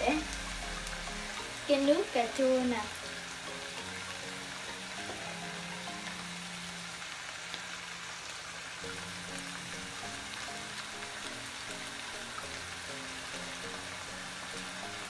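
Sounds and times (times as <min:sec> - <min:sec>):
soft background music: 0:00.0 - 0:07.3, 0:08.8 - 0:15.0
meat sizzling in a frying pan: 0:00.0 - 0:15.0.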